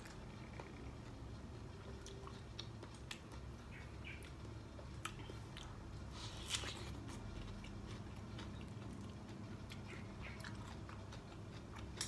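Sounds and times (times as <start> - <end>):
person chewing pineapple: 0.0 - 12.0.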